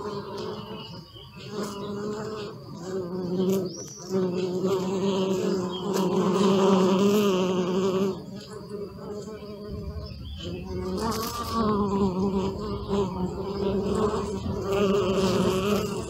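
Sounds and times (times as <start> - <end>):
bee buzzing: 0.0 - 16.0.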